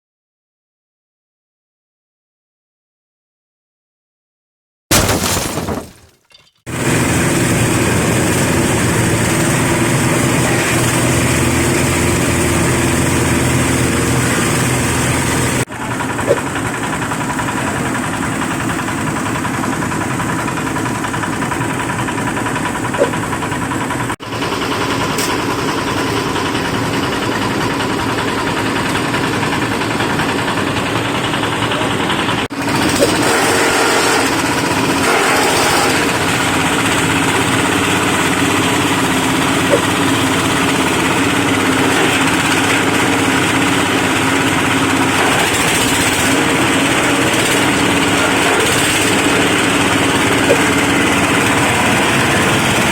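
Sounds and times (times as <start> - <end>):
shredding machine drone: 4.9 - 52.9.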